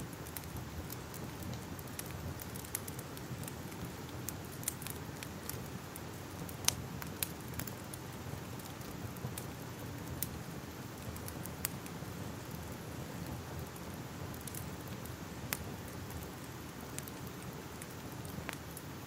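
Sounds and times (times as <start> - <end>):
fire crackling: 0.0 - 19.0
low rumble of flames: 0.0 - 19.0.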